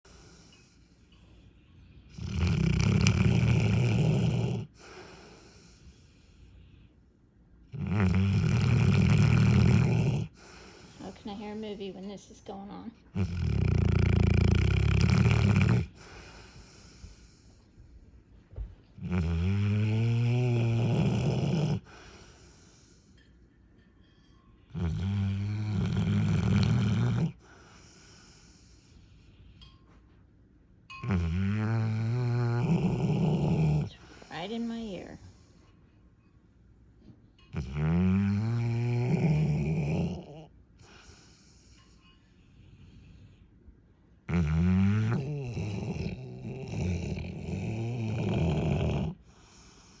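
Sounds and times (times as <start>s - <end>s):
dog snoring: 0.1s - 6.9s, 7.7s - 11.8s, 12.5s - 23.3s, 24.6s - 29.7s, 31.0s - 35.7s, 37.5s - 43.5s, 44.2s - 50.0s.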